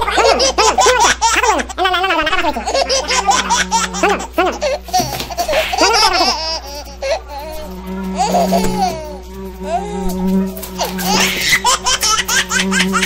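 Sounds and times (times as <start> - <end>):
high-pitched giggling: 0.0 - 10.1, 10.7 - 13.0.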